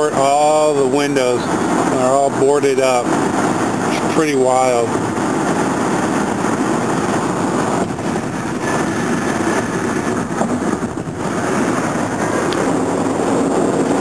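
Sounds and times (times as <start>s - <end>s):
car road noise at highway speed: 0.0s - 14.0s.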